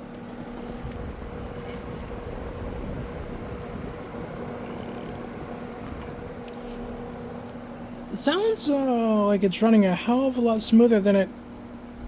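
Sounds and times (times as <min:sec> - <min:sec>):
fan blades rushing air: 0:00.0 - 0:12.0
fan motor hum: 0:00.0 - 0:12.0.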